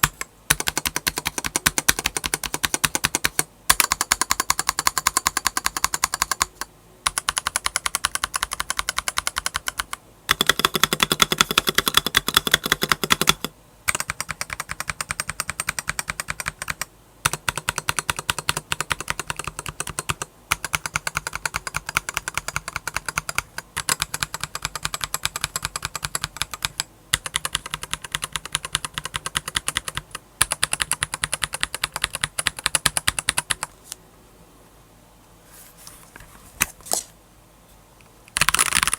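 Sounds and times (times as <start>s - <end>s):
fast typing on mechanical keyboard: 0.0s - 33.7s, 38.3s - 38.9s.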